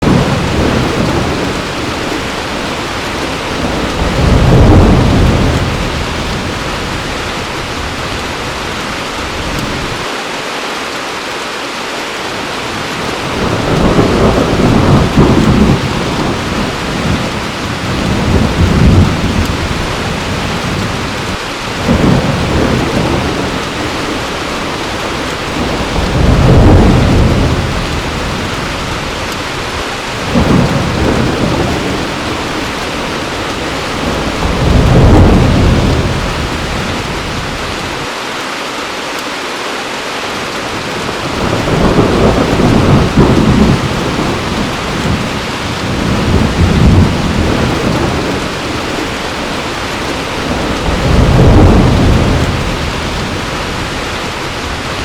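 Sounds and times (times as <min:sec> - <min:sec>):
thunder rumbling: 0:00.0 - 0:10.1, 0:12.6 - 0:38.1, 0:40.7 - 0:55.0
heavy rain: 0:00.0 - 0:55.0.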